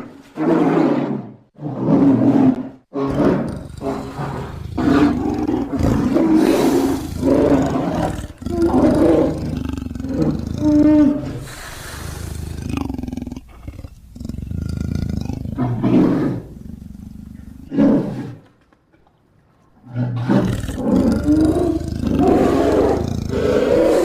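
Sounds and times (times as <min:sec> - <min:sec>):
deep creature roars: 0:00.6 - 0:18.4, 0:19.9 - 0:24.0.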